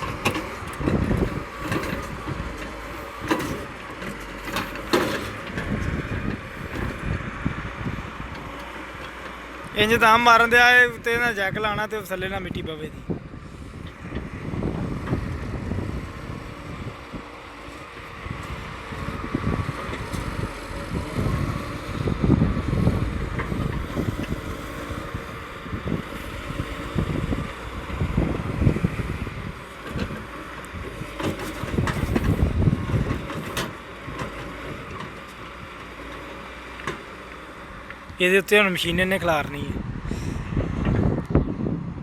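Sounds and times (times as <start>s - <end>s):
wind buffeting microphone: 0.0s - 36.0s, 37.6s - 42.0s
heavy vehicle engine running: 0.0s - 42.0s.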